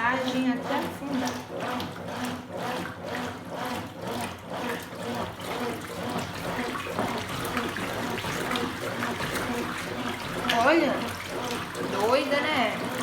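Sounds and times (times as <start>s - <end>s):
washing machine motor hum: 0.0s - 13.0s
water sloshing in washing machine: 0.0s - 13.0s.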